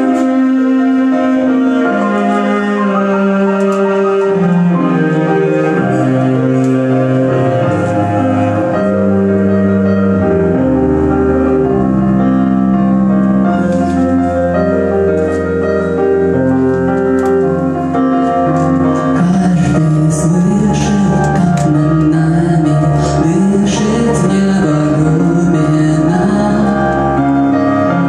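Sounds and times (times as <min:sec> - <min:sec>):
bowed cello: 0:00.0 - 0:28.0
piano chords: 0:00.0 - 0:28.0.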